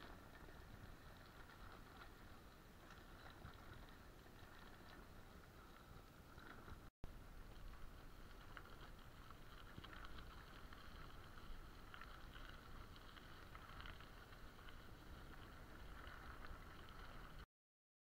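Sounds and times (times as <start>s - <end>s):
small ticks: 0.0s - 17.4s
wind rumble: 0.0s - 17.4s
bicycle rolling on gravel: 0.0s - 17.5s.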